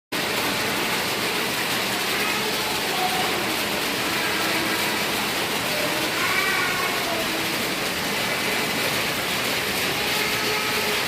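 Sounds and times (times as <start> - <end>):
heavy rain falling: 0.2 - 11.0
faint voices: 2.0 - 11.0.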